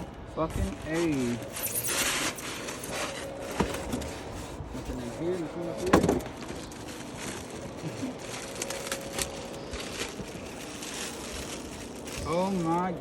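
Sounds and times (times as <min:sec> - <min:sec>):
packaging rustling: 0:00.5 - 0:13.0.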